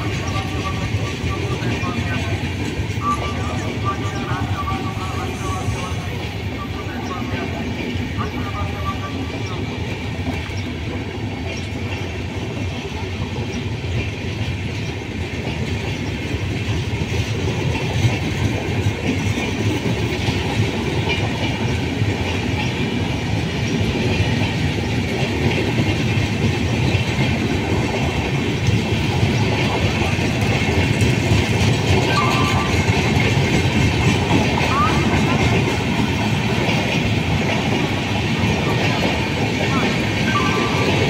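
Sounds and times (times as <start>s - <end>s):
train wheels clattering on rails: 0.0s - 41.0s.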